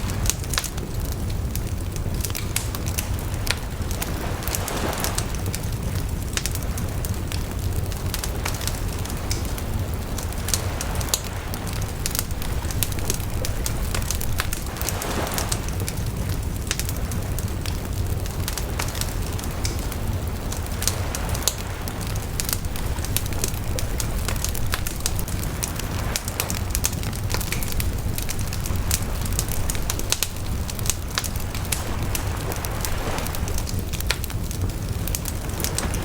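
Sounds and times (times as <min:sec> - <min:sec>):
fire crackling and popping: 0:00.0 - 0:36.0
low rush of flames: 0:00.0 - 0:36.0.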